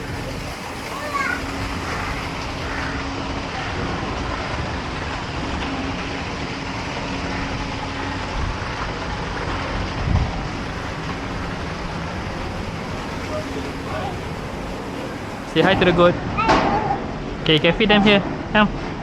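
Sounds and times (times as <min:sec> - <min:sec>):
rushing rumbling noise: 0:00.0 - 0:19.0.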